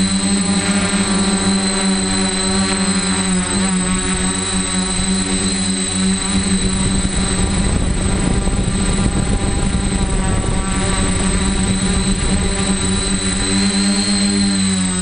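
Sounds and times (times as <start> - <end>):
quadcopter propellers buzzing: 0.0 - 15.0
thin high whine: 0.0 - 15.0.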